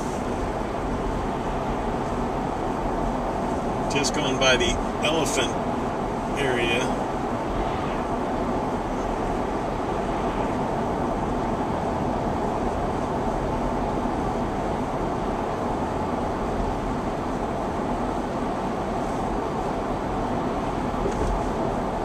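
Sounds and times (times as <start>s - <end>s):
car road noise from inside: 0.0s - 22.0s.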